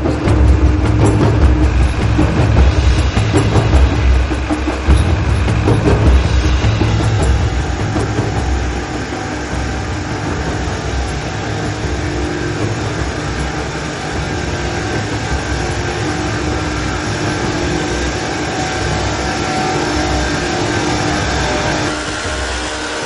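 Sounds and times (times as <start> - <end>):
grinding stones on steel rail: 0.0 - 23.0.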